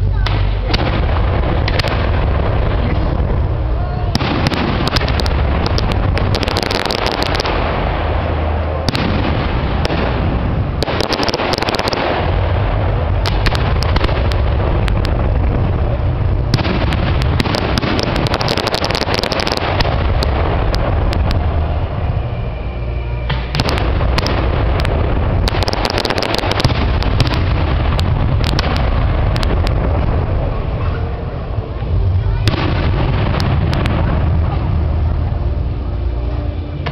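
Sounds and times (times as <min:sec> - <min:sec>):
fireworks bangs: 0:00.0 - 0:35.7
fireworks crackling: 0:00.0 - 0:36.9.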